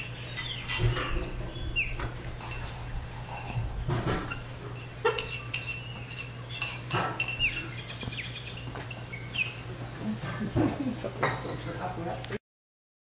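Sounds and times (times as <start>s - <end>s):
birds chirping: 0.0s - 11.2s.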